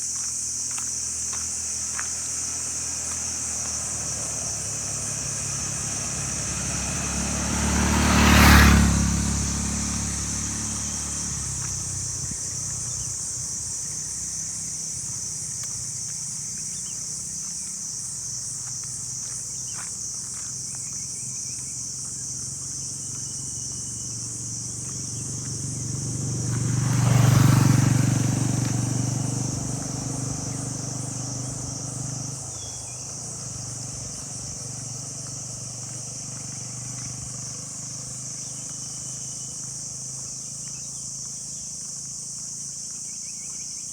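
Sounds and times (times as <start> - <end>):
motor vehicles passing: 0.0 - 43.9.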